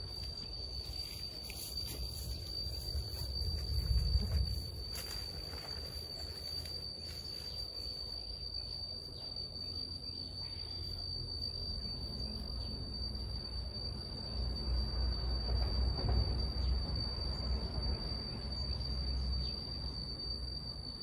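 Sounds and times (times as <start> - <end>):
insect calling high tone: 0.0 - 21.0.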